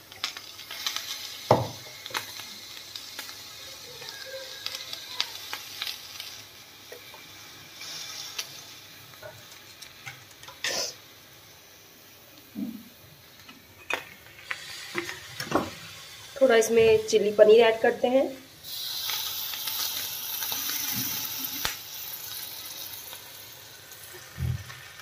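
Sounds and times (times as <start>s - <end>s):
rice sizzling on hot plate: 0.0s - 25.0s.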